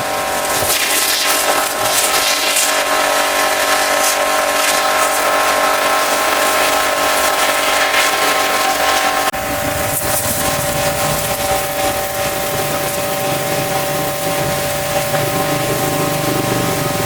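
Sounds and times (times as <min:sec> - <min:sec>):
pressure washer motor whine: 0:00.0 - 0:17.0
water jet hissing: 0:00.0 - 0:17.0.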